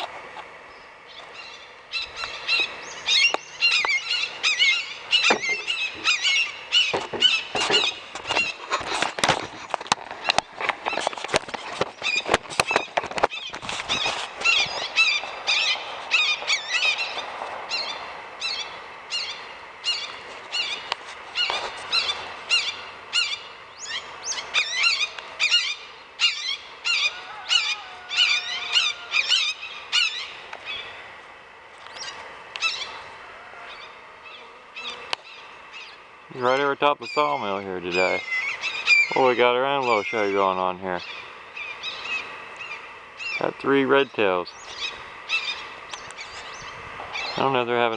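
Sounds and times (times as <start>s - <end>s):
hawks calling: 0.7s - 31.2s, 31.8s - 47.9s.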